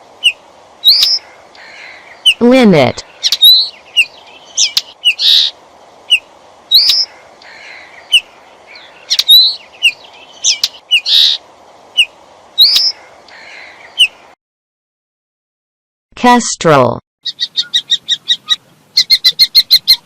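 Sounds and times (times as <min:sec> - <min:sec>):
faint background hiss: 0:00.0 - 0:14.4, 0:17.4 - 0:20.0
bird chirping and twittering: 0:00.2 - 0:14.3, 0:17.2 - 0:20.0.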